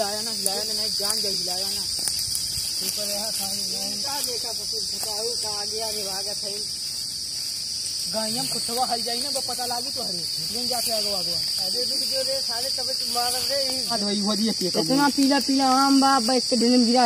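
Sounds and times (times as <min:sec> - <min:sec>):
people talking: 0:00.0 - 0:02.0, 0:02.8 - 0:06.7, 0:08.0 - 0:17.0
insects droning: 0:00.0 - 0:17.0.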